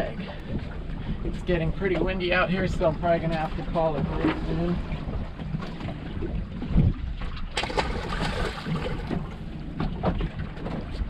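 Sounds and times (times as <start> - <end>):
water slapping against hull: 0.0 - 11.0
wind buffeting microphone: 0.0 - 11.0.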